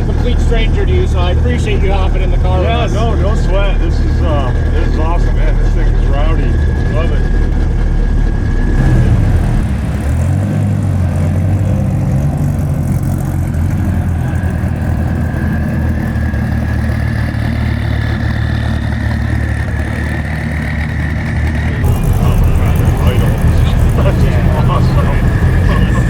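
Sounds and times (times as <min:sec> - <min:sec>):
car engine rumble: 0:00.0 - 0:26.0
high engine whine: 0:00.0 - 0:26.0.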